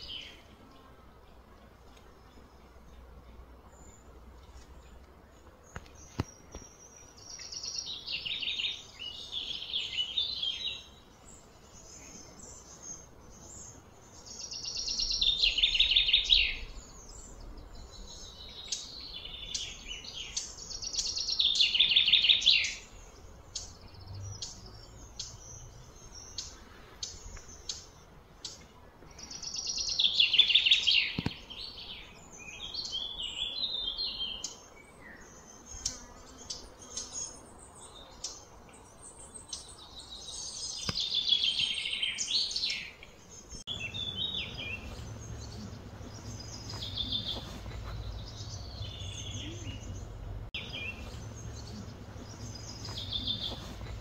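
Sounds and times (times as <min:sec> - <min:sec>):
bird singing trilled phrases: 0:05.9 - 0:54.0.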